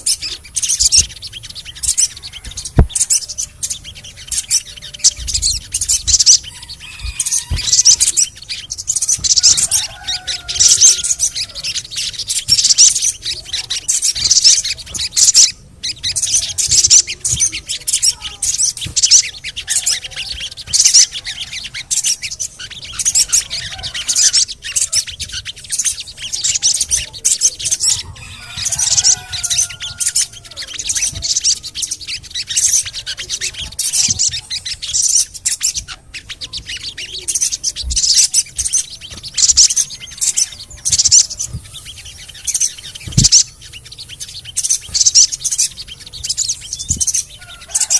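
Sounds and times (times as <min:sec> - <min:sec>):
sunbird chirping and chattering: 0:00.0 - 0:47.9.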